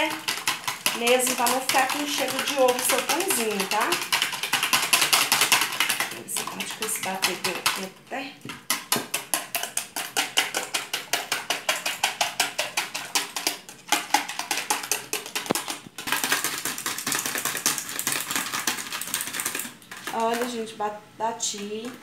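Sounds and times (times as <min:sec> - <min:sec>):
whisk beating eggs in a dish: 0:00.0 - 0:20.7.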